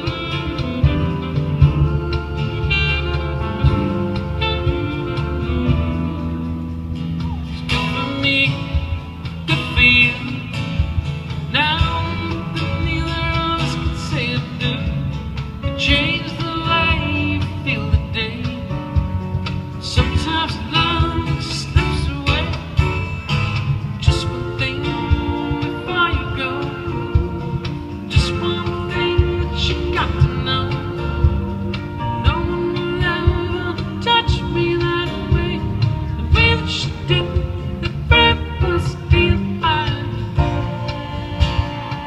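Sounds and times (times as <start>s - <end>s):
acoustic band playing soft-rock ballad: 0.0s - 42.0s
lead vocal singing: 0.0s - 42.0s.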